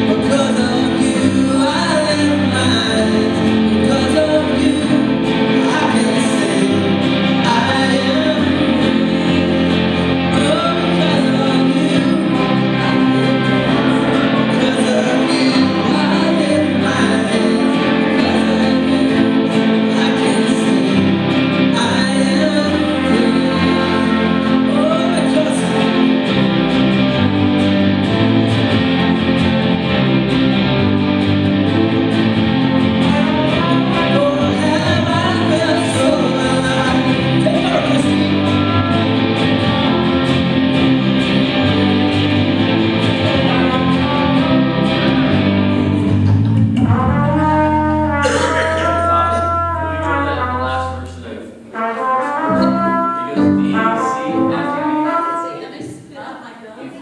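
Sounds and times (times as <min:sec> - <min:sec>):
people singing: 0:00.0 - 0:27.4, 0:33.0 - 0:47.6, 0:48.2 - 0:57.0
drum kit beat: 0:00.0 - 0:55.8
keyboard: 0:00.0 - 0:55.8
acoustic guitar: 0:00.0 - 0:57.0.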